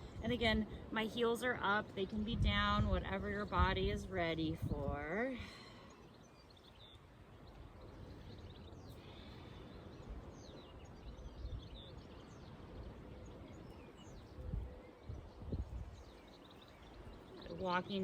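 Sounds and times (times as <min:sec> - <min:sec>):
outdoor background noise: 0:00.0 - 0:18.0
small birds chirping: 0:00.0 - 0:18.0.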